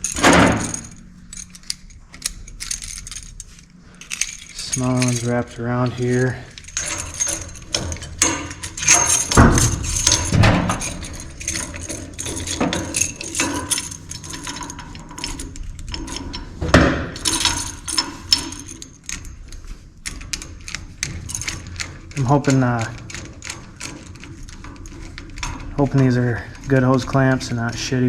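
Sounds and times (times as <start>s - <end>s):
metal hose clamps clinking: 0.0s - 28.0s.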